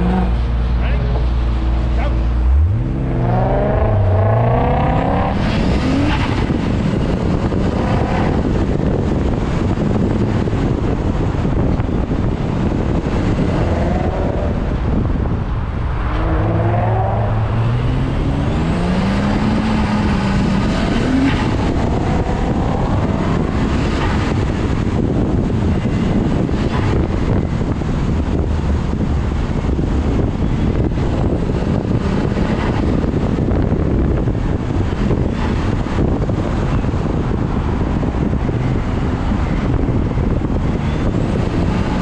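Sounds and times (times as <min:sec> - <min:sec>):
car engine revving: 0:00.0 - 0:42.0
road and wind noise: 0:00.0 - 0:42.0.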